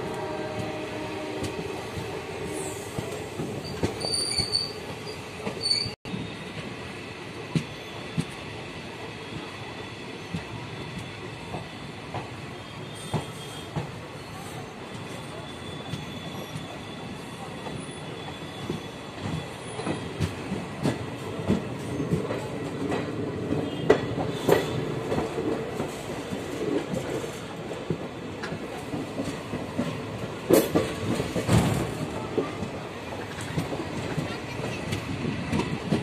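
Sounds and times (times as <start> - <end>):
train rumble on rails: 0.0 - 36.0.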